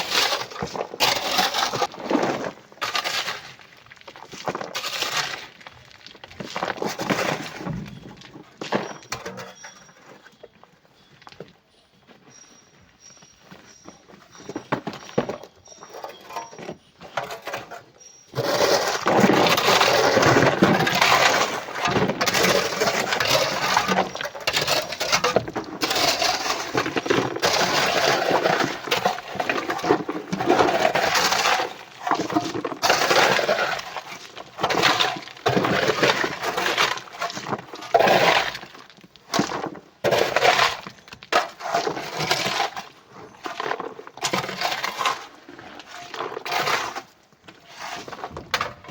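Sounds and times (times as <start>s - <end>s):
rock clattering and crunching: 0.0s - 11.6s, 13.6s - 48.9s.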